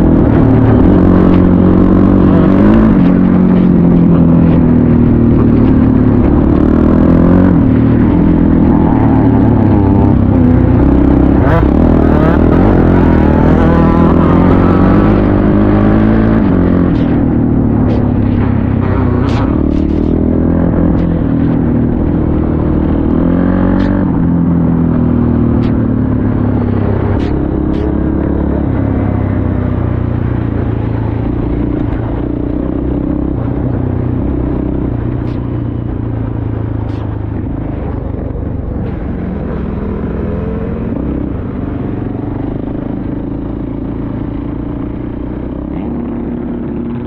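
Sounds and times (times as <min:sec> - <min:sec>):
quad bike engine running: 0:00.0 - 0:47.0.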